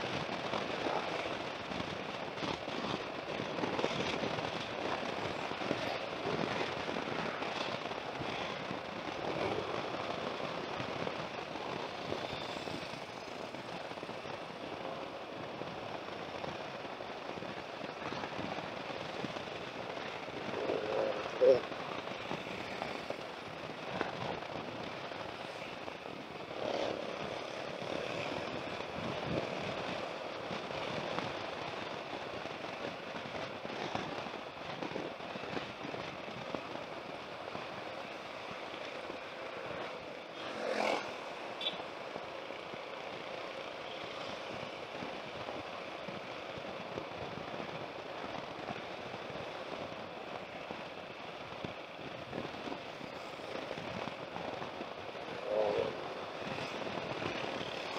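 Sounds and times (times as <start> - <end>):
wind on helmet microphone: 0.0 - 40.3, 44.0 - 57.9
road noise: 0.0 - 57.9.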